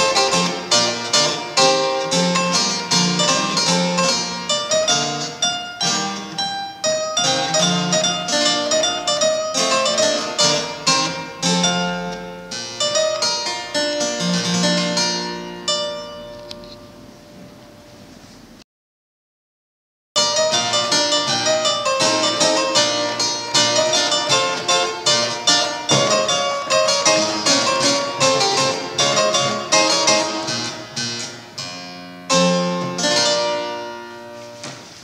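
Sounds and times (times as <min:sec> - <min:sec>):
harpsichord playing: 0:00.0 - 0:17.1, 0:20.2 - 0:35.0.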